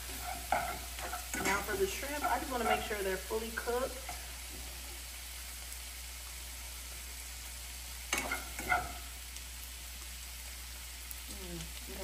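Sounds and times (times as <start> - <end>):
food frying in pans: 0.0 - 12.0.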